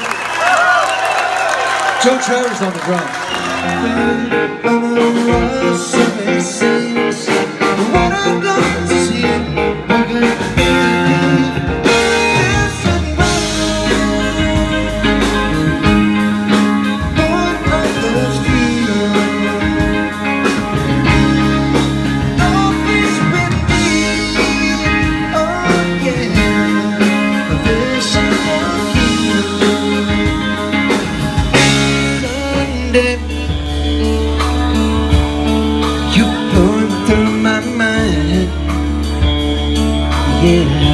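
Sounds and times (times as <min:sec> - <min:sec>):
electric guitar lead: 0:00.0 - 0:40.9
drum kit: 0:03.2 - 0:40.9
electric bass: 0:03.2 - 0:40.9.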